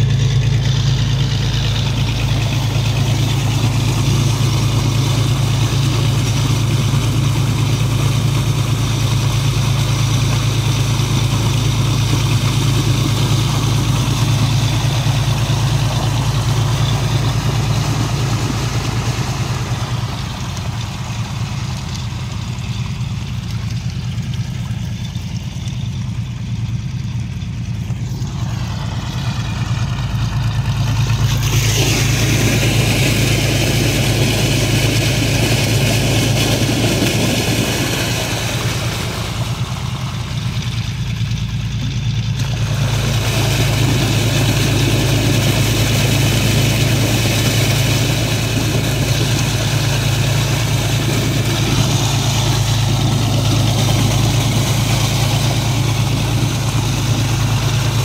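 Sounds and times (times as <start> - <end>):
engine running steadily: 0.0 - 58.0
mud slurry gushing from hose: 0.0 - 58.0.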